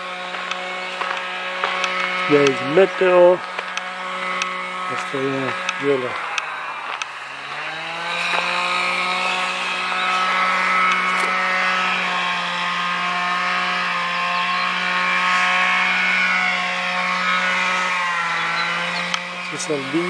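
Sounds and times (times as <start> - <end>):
small engine running fast: 0.0 - 20.0.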